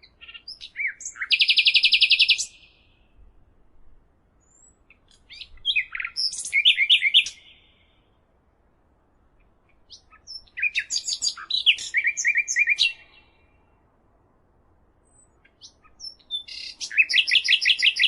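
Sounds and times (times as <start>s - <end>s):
songbird chirping: 0.0s - 3.3s, 4.3s - 18.0s.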